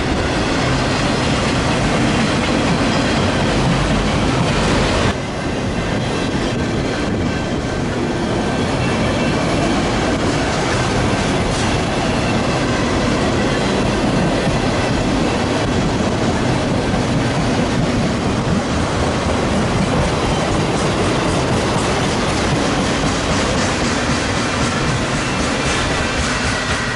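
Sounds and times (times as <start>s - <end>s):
freight train rolling past: 0.0s - 26.9s.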